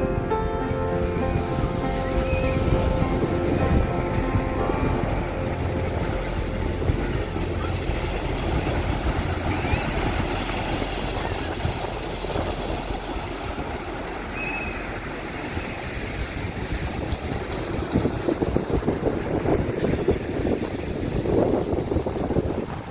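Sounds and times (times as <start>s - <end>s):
steady rushing noise: 0.0s - 22.9s
wind buffeting microphone: 0.0s - 22.9s.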